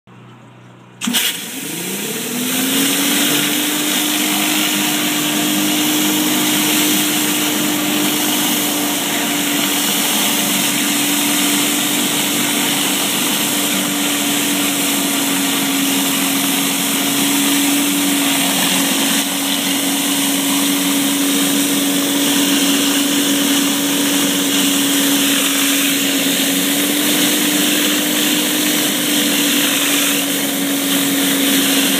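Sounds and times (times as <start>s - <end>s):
hiss of high-pressure water: 1.0s - 31.9s
pressure washer running: 1.0s - 31.9s.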